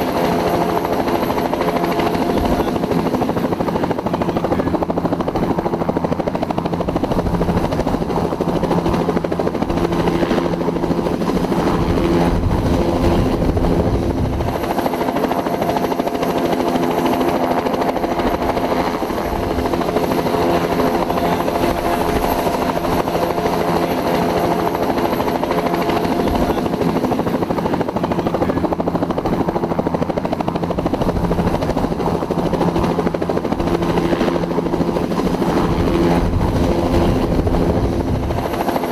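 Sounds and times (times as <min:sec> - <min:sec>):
helicopter rotor running: 0:00.0 - 0:38.9.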